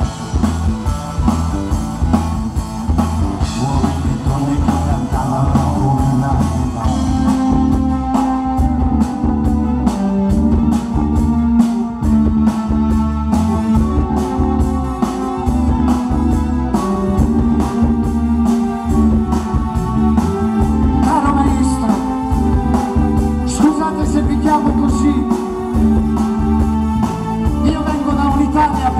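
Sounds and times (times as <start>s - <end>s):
bass guitar: 0.0s - 28.9s
drum kit beat: 0.0s - 28.9s
electric guitar: 0.0s - 28.9s
keyboards: 0.0s - 28.9s.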